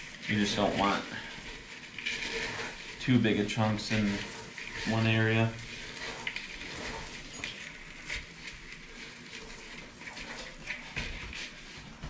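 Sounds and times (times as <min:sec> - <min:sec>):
shredded wheat crunching by hand: 0:00.0 - 0:12.0.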